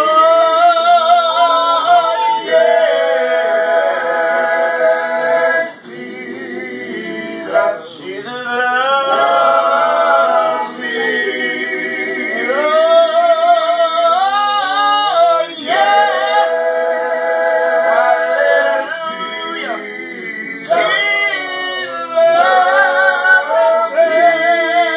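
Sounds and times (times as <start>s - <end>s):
men singing a cappella: 0.0s - 24.9s.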